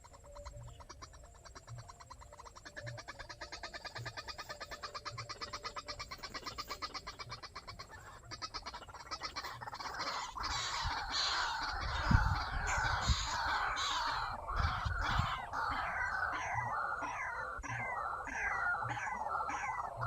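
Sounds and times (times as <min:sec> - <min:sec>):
bird pulsed calls: 0:00.0 - 0:20.0
harsh croaking bird calls: 0:00.0 - 0:20.0.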